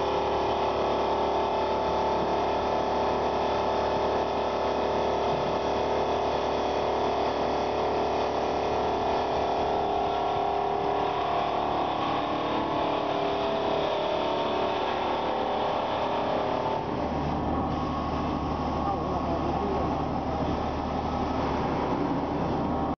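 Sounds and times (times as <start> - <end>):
polishing machine humming: 0.0 - 22.9.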